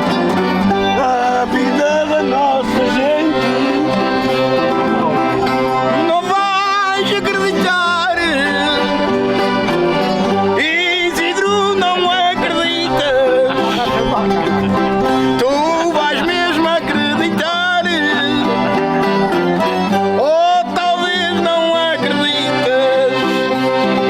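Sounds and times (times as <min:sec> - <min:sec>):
accordion: 0:00.0 - 0:24.0
string instruments playing: 0:00.0 - 0:24.0.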